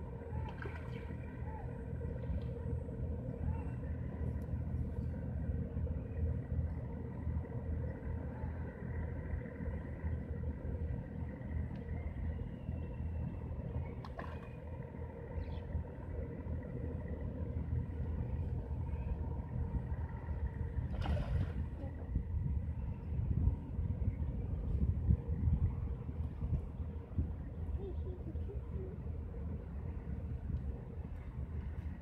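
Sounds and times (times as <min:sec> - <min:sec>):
faint hum: 0:00.0 - 0:32.0
low mechanical rumble: 0:00.0 - 0:32.0.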